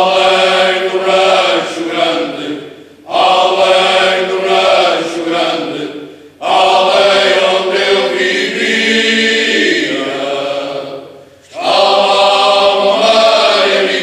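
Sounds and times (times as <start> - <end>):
choir singing unaccompanied: 0.0 - 14.0.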